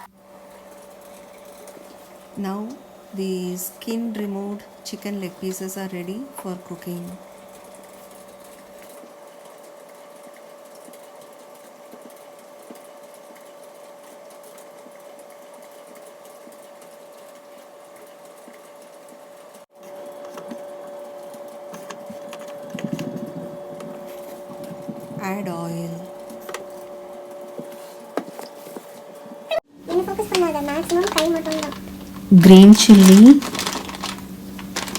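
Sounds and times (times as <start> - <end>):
steady motor hum: 0.0 - 34.9.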